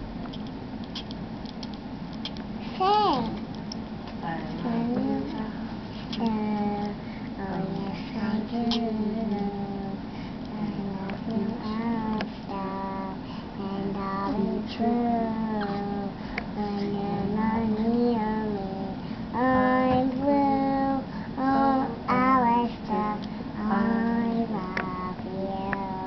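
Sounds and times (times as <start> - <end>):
girl singing: 2.8 - 3.4, 4.2 - 5.5, 6.1 - 26.0.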